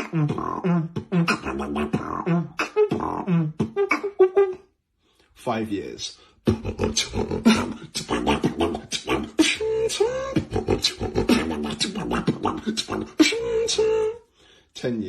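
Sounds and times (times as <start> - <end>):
person beatboxing: 0.0 - 4.6, 6.2 - 14.2.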